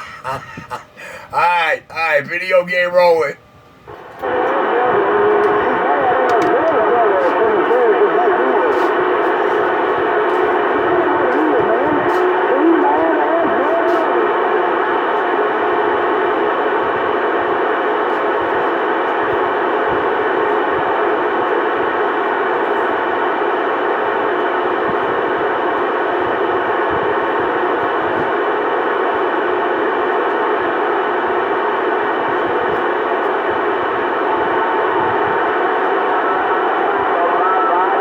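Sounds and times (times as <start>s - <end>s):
radio static noise: 0.0s - 38.0s.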